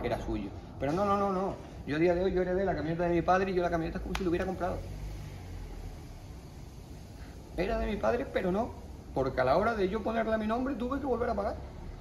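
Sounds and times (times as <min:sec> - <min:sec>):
low background rumble with hiss: 0:00.0 - 0:12.0.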